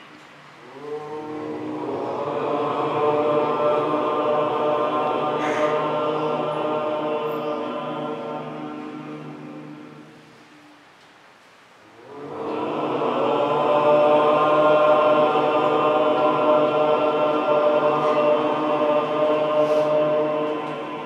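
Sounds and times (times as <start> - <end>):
group chanting in unison: 0.6 - 10.5, 11.9 - 21.0.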